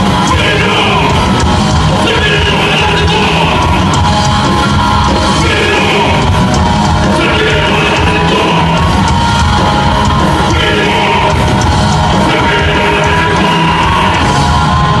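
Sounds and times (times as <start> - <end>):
drum beat: 0.0 - 15.0
heavy metal band playing: 0.0 - 15.0.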